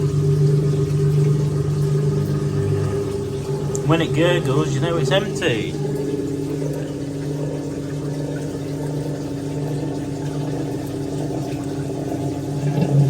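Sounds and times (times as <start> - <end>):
washing machine drain pump humming: 0.0 - 13.0.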